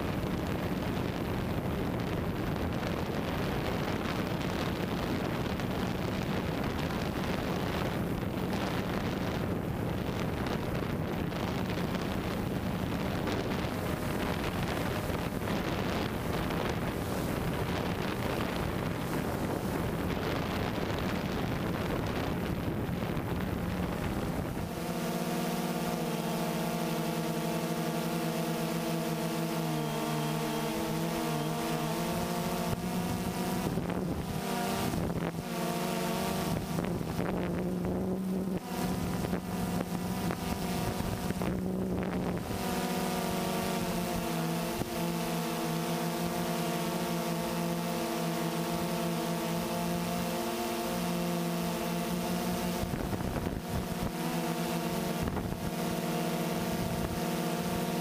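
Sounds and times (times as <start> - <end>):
wind noise on microphone: 0.0 - 50.4, 51.0 - 58.0
drone motors humming: 0.0 - 58.0.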